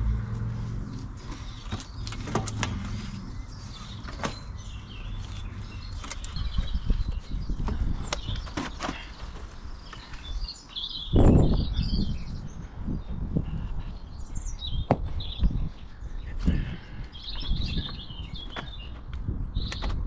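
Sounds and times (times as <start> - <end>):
birds chirping and singing: 0.0 - 20.0.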